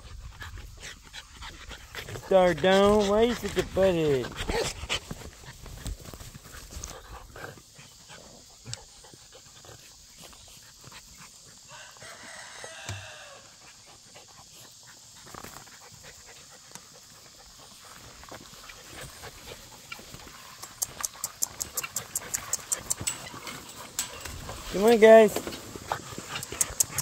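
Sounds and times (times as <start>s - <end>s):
puppies rustling in grass: 0.0s - 27.0s.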